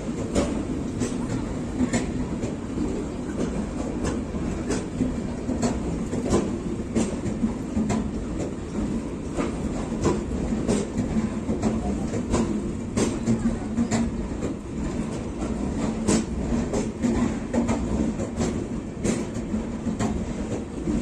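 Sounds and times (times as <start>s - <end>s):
train rumbling past: 0.0s - 21.0s
wheels clicking over rail joints: 0.2s - 21.0s.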